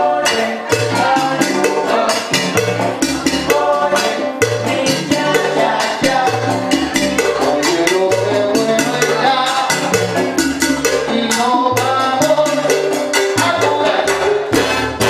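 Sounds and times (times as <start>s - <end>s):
people singing: 0.0s - 15.0s
salsa band playing: 0.0s - 15.0s.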